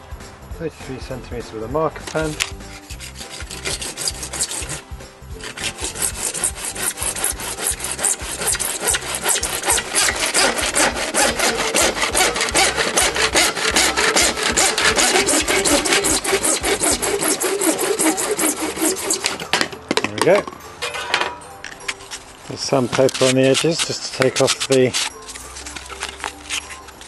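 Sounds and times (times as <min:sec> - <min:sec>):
hand saw cutting plastic pipe: 0:02.1 - 0:19.8, 0:21.8 - 0:27.0.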